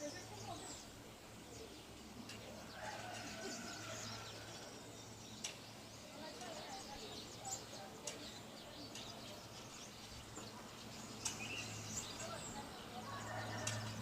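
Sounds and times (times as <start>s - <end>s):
wild birds chirping: 0.0s - 14.0s.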